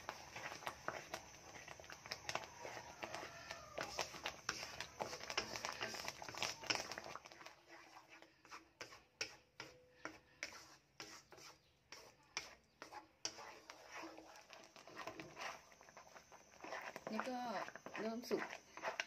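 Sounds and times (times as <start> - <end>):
wooden spatula scraping a wok: 0.0 - 19.0.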